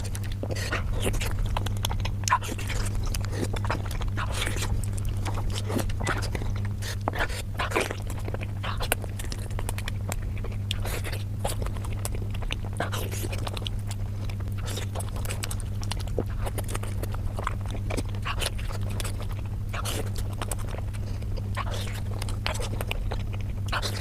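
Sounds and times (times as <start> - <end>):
close chewing and mouth smacks: 0.0 - 24.0
steady low hum: 0.0 - 24.0.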